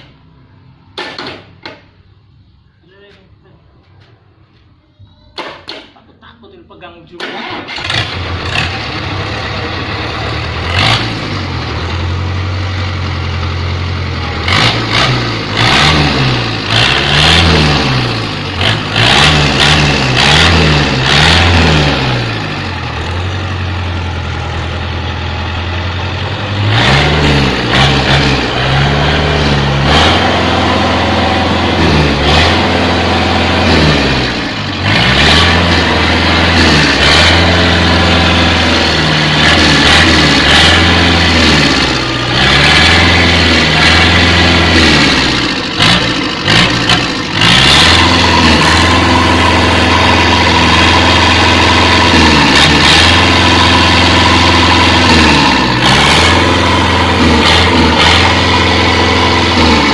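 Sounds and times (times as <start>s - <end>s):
diesel engine idling and revving: 0.0s - 2.8s, 6.8s - 59.9s.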